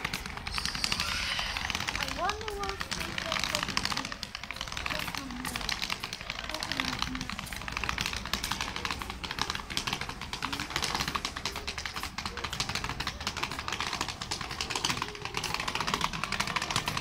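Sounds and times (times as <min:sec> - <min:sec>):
plastic wheels clattering over paving: 0:00.0 - 0:17.0.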